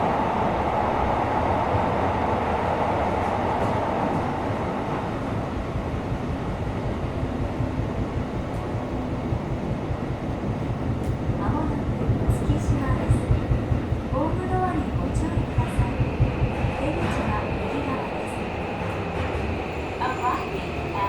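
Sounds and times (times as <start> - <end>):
subway train rumbling in tunnel: 0.0 - 21.0.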